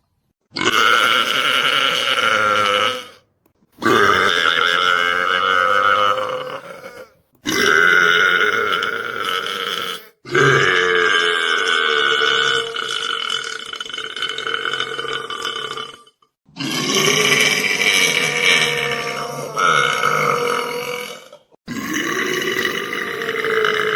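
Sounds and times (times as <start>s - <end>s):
man belching: 0.5s - 3.2s, 3.8s - 23.9s.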